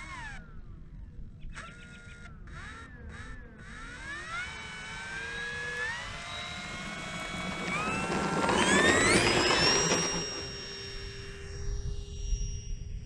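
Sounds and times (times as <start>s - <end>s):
model plane motor whining: 0.0s - 0.6s, 1.6s - 13.0s.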